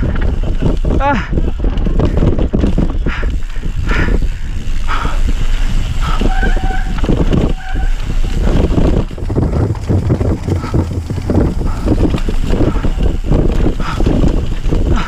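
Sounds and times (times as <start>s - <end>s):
bike rattling over bumps: 0.0s - 15.0s
bike tyres on dirt: 0.0s - 15.0s
wind on microphone: 0.0s - 15.0s.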